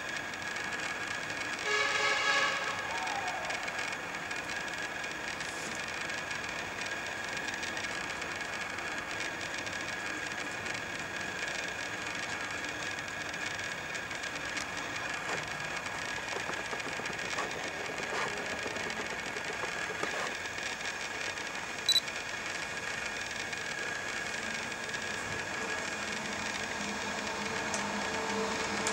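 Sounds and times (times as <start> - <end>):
constant high-pitched tones: 0.0 - 28.9.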